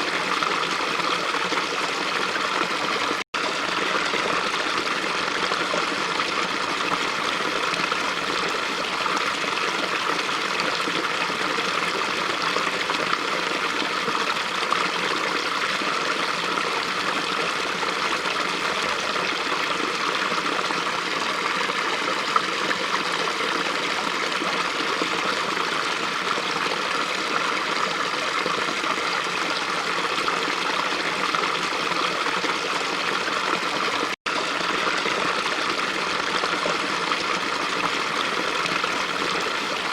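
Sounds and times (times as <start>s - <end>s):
brook water flowing: 0.0s - 39.9s.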